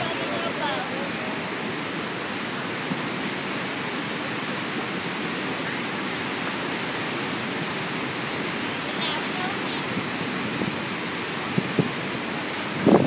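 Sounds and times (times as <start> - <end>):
rushing waterfall: 0.0 - 13.0.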